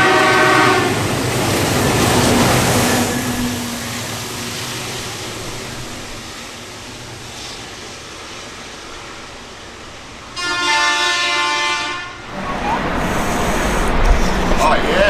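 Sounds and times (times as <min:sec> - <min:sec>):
passing train rolling: 0:00.0 - 0:15.0.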